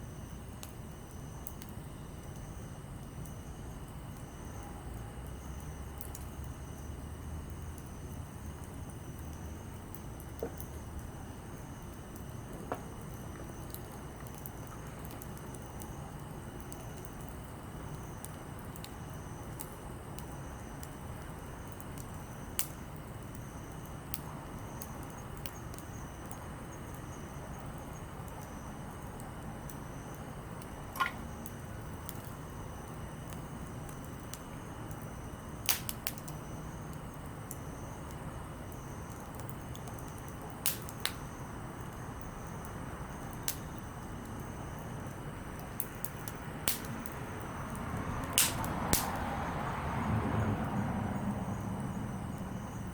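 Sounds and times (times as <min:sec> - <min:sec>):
campfire burning: 0:00.0 - 0:52.9
fire pops and crackles: 0:00.2 - 0:04.6, 0:05.2 - 0:49.4.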